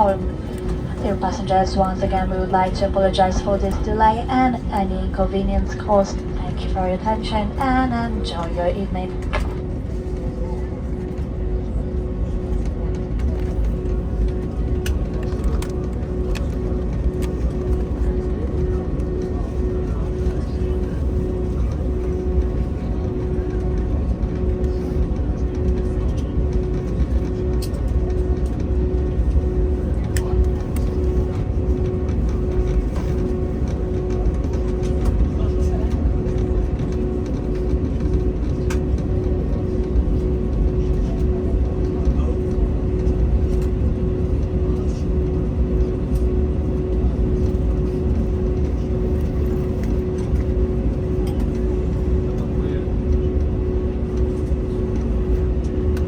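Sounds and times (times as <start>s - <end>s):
airplane cabin low rumble: 0.0s - 56.0s
constant hum: 0.0s - 56.0s.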